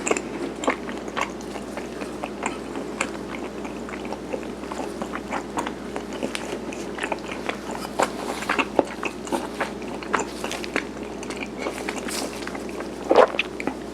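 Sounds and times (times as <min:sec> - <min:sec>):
chewing rice cake: 0:00.0 - 0:13.9.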